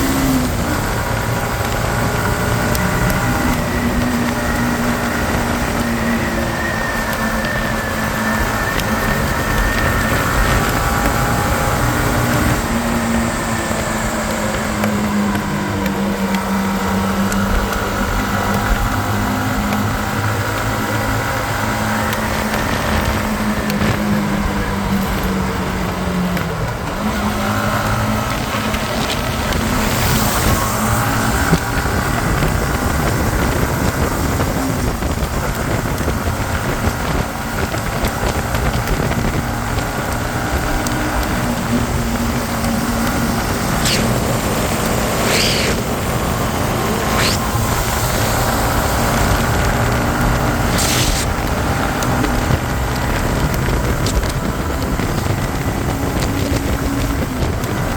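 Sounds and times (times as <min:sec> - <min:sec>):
motorcycle engine running: 0:00.0 - 0:57.9
road rumble: 0:00.0 - 0:57.9
wind noise on microphone: 0:00.0 - 0:57.9.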